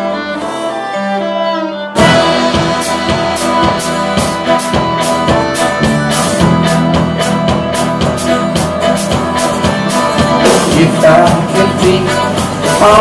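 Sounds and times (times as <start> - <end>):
live band playing: 0.0 - 13.0
steady drumbeat: 2.0 - 13.0.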